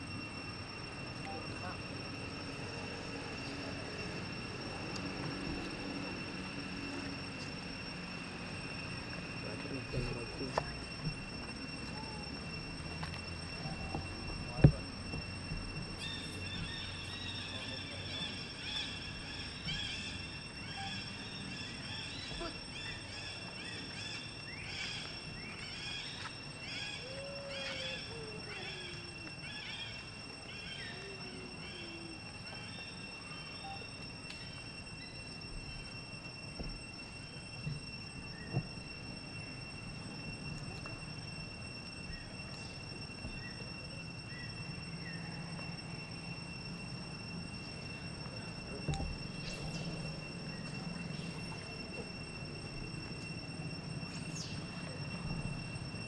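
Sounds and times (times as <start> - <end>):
high-pitched insect drone: 0.0 - 56.0
steady high-pitched whine: 0.0 - 56.0.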